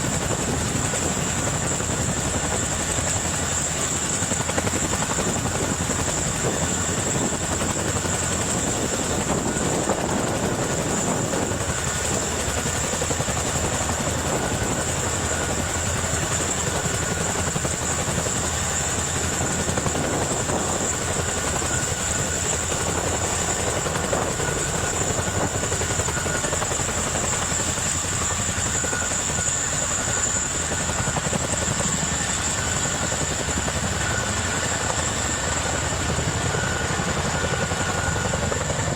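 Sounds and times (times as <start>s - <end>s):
helicopter running: 0.0s - 38.9s.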